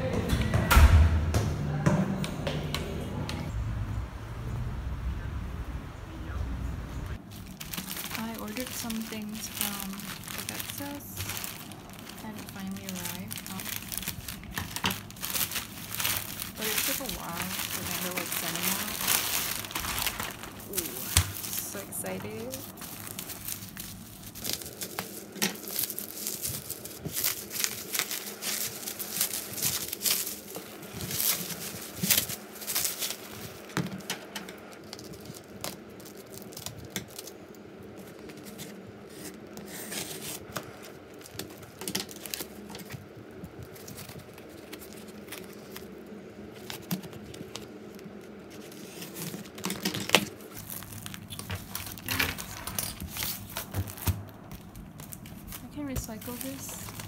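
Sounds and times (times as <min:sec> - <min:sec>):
bubble wrap crinkling and tearing: 0:07.2 - 0:57.0.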